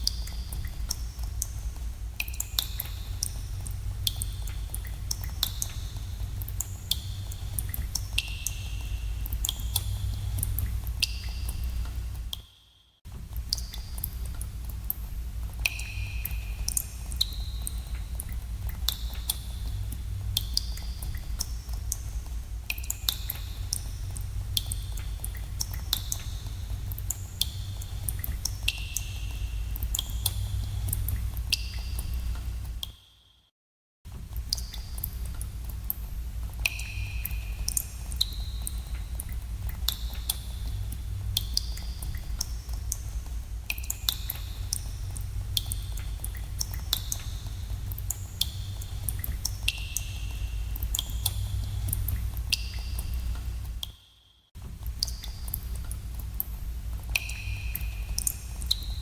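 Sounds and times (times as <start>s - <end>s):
steady low rumble: 0.0s - 12.4s, 13.1s - 32.8s, 34.1s - 53.8s, 54.6s - 59.0s
water dripping in a cave: 0.0s - 33.5s, 34.1s - 59.0s.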